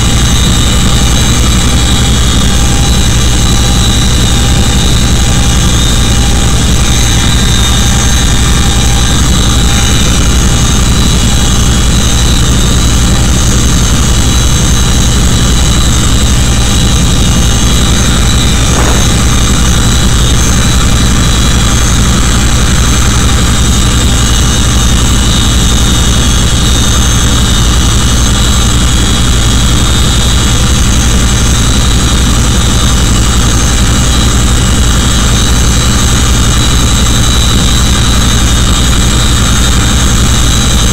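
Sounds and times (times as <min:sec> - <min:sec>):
helicopter engine drone: 0:00.0 - 0:40.9
high engine whine: 0:00.0 - 0:40.9.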